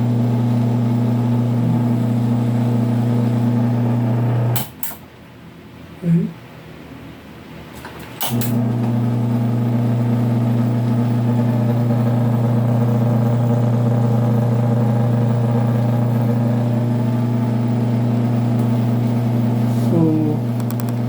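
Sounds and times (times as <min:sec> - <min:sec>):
electric motor humming: 0:00.0 - 0:04.6, 0:08.5 - 0:21.0.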